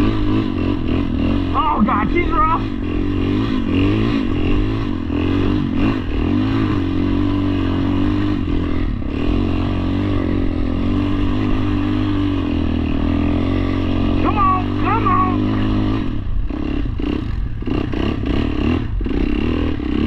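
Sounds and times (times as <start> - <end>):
quad engine running: 0.0 - 20.0.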